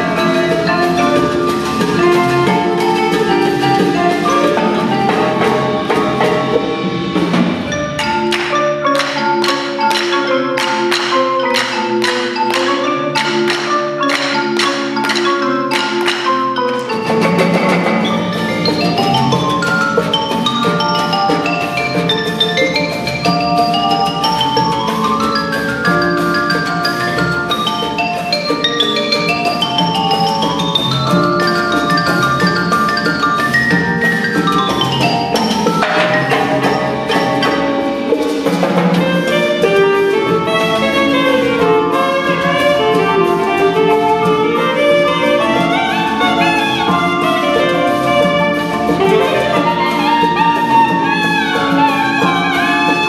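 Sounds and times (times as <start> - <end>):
drums: 0.0 - 53.0
mallet percussion ensemble: 0.0 - 53.0.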